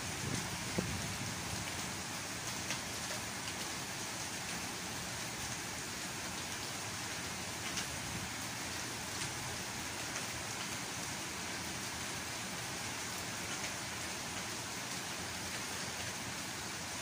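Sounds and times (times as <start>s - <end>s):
gentle rain on plants: 0.0s - 17.0s.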